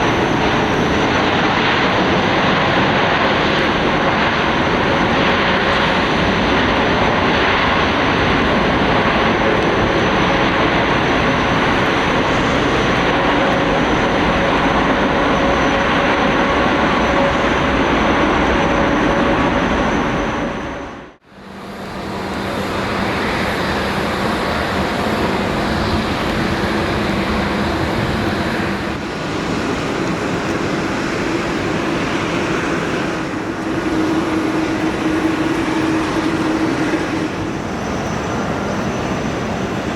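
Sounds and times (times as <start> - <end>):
jet engines with high whine: 0.0 - 39.9.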